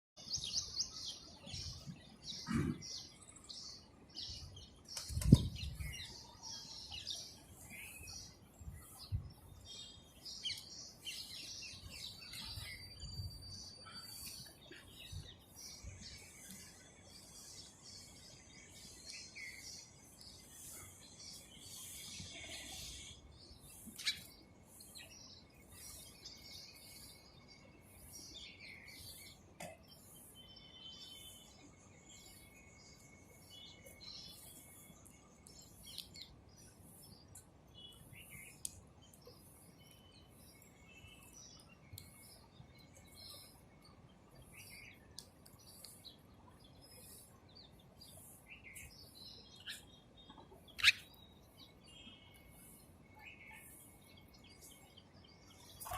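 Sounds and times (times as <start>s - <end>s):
sparrows chirping: 0.2s - 55.9s.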